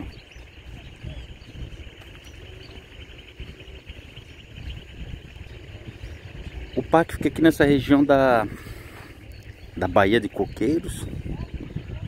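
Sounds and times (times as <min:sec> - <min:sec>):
high chirring of small creatures: 0:00.0 - 0:12.0
low uneven rumble: 0:00.0 - 0:12.0.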